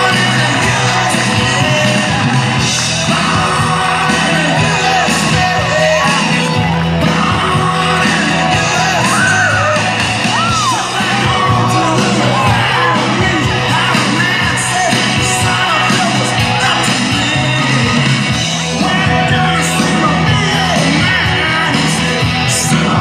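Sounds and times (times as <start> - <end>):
crowd yelling and cheering: 0.0 - 23.0
rock music with vocals: 0.0 - 23.0.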